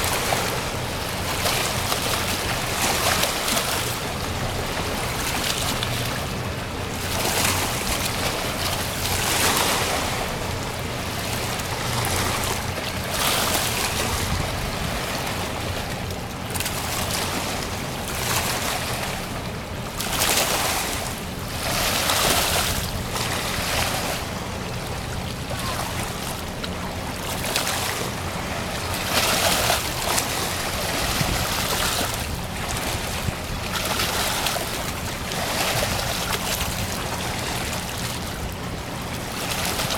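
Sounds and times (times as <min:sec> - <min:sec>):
ship low hum: 0:00.0 - 0:39.9
water rushing and splashing: 0:00.0 - 0:39.9.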